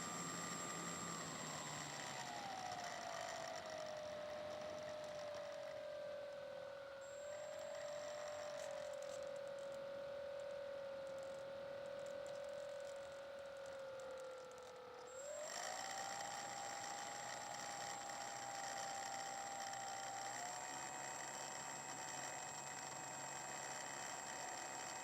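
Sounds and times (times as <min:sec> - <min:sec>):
electric motor and propeller whining: 0:00.0 - 0:25.0.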